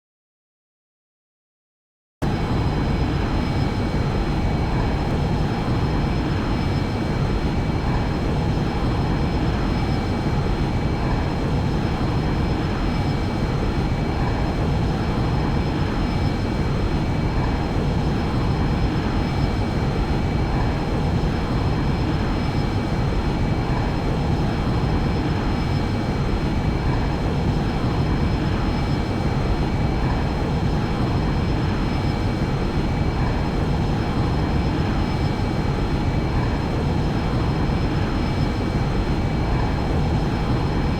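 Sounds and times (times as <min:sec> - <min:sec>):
airplane engine drone: 0:02.2 - 0:40.9.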